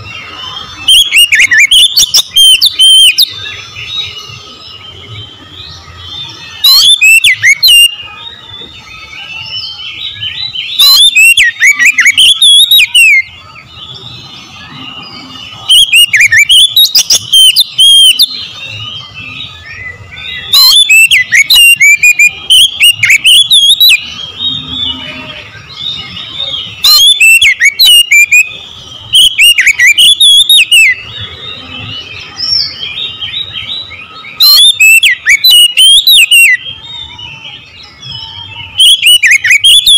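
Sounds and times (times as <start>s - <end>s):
bird singing whistles: 0.0s - 39.9s.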